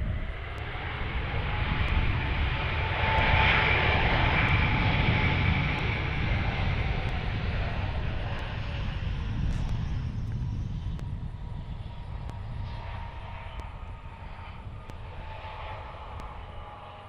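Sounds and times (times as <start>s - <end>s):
jet engine roar with whine: 0.0s - 17.0s.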